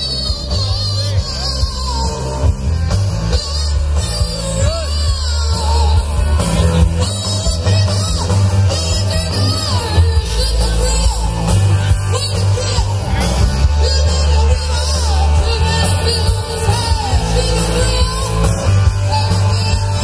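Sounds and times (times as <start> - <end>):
bass guitar: 0.0 - 20.0
drum kit: 0.0 - 20.0
electric guitars: 0.0 - 20.0.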